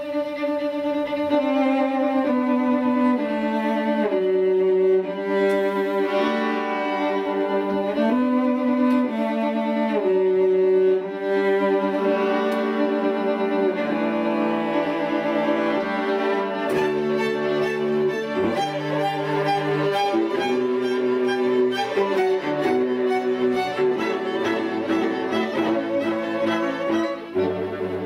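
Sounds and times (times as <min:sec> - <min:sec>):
low cello notes: 0:00.0 - 0:28.0
string quartet bowed chords: 0:00.0 - 0:28.0.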